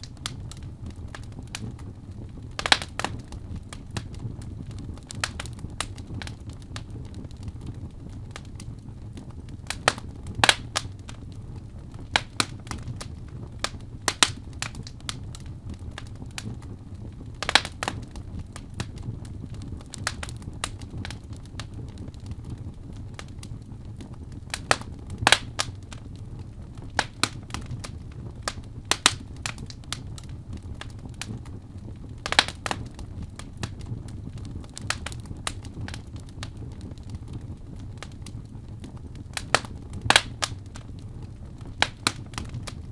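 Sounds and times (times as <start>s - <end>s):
fire crackling and popping: 0.0s - 42.9s
low rumble of flames: 0.0s - 42.9s.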